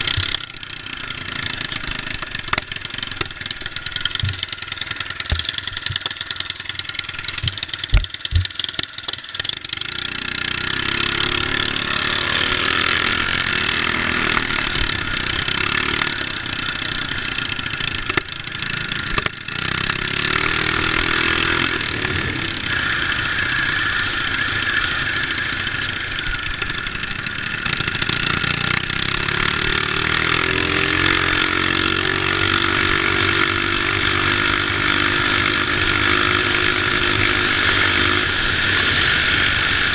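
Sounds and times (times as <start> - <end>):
mini bike engines revving: 0.0 - 39.9.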